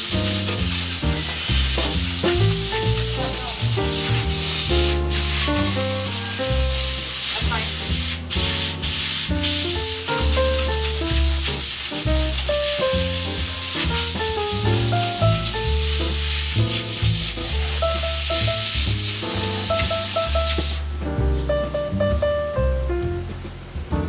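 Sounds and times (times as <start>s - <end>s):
steady hiss: 0.0s - 21.2s
background music melody with bass: 0.0s - 24.0s.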